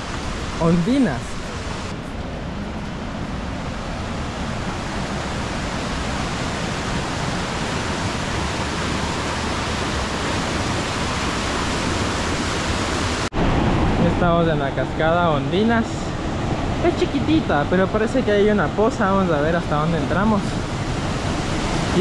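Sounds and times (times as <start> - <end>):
waterfall rushing: 0.0 - 1.9, 3.4 - 22.0.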